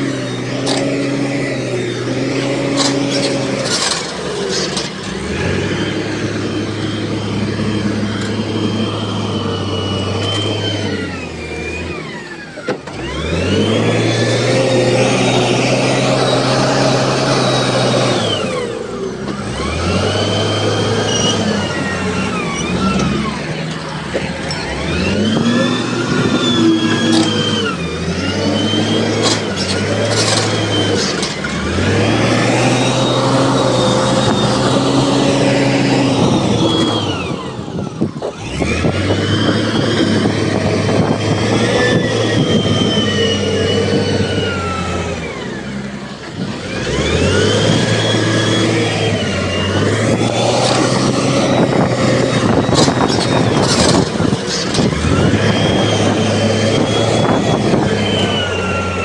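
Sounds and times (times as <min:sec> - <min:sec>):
diesel machine engine revving: 0:00.0 - 0:59.0.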